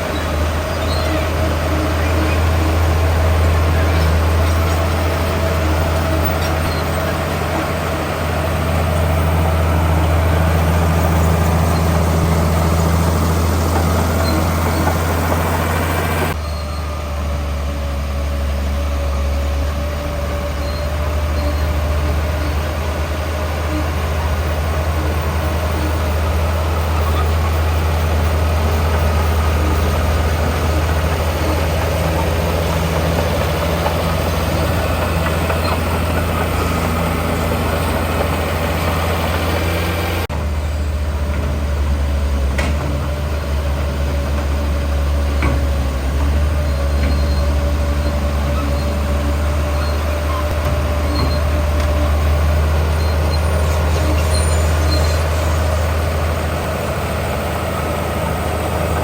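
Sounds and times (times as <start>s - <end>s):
heavy diesel engine rumbling: 0.0s - 59.0s.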